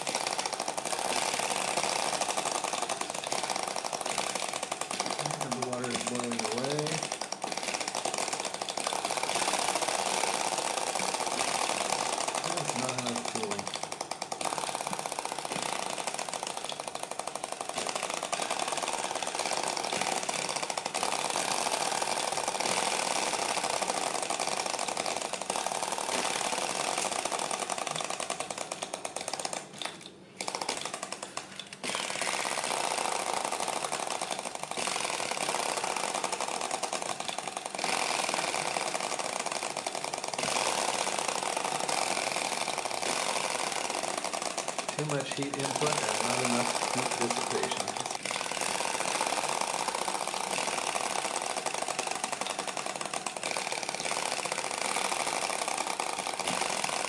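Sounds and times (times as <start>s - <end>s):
small heat engine clattering: 0.0s - 57.0s.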